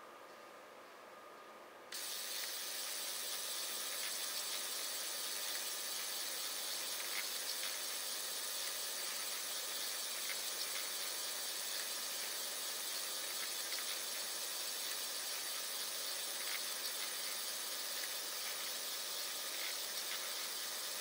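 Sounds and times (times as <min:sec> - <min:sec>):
mechanism hissing: 0:01.9 - 0:21.0.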